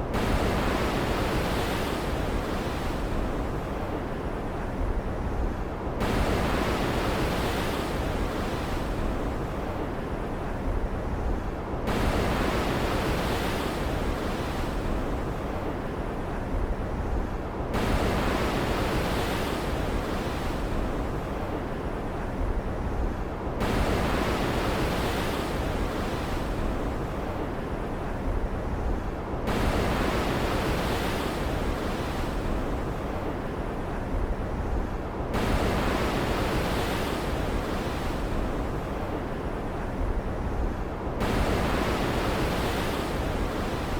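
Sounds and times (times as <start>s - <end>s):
waves surging in: 0.0s - 43.9s
ocean surf: 0.1s - 43.9s.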